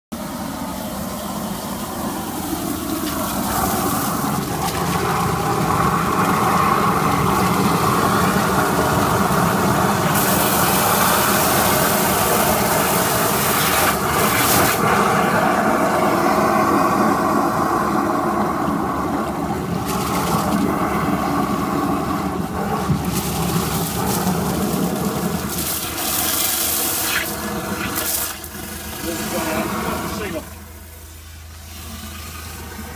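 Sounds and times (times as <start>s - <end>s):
jetting machine running: 0.1s - 32.9s
water gushing from drain pipe: 0.2s - 32.9s.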